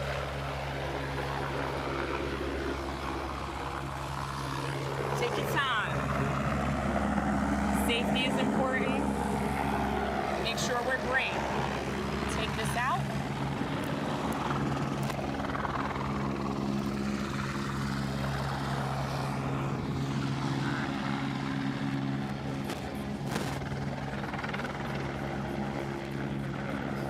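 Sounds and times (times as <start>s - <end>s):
helicopter droning hum: 0.0s - 27.0s.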